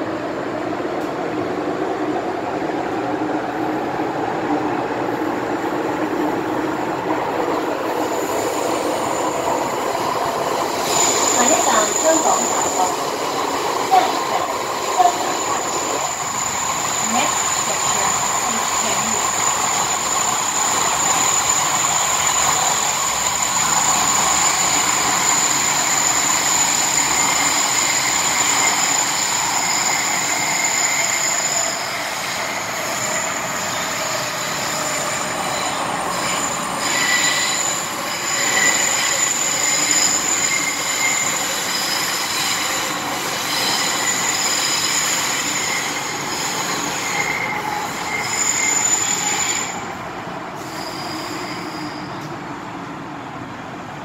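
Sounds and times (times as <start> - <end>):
train wheel and rail noise: 0.0 - 54.0
high wheel squeals: 7.9 - 52.3.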